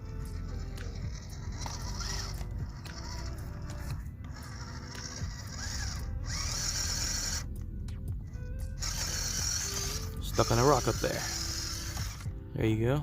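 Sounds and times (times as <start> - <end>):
electric motor and gearbox whining: 0.0 - 13.0.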